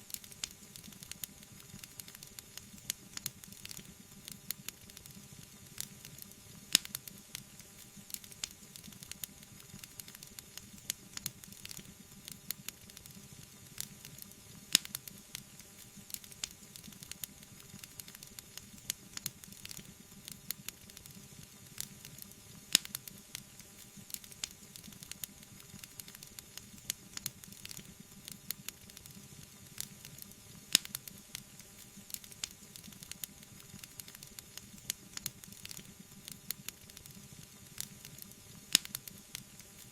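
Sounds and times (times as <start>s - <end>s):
fire popping and snapping: 0.1s - 39.9s
wood fire crackling: 0.1s - 39.9s.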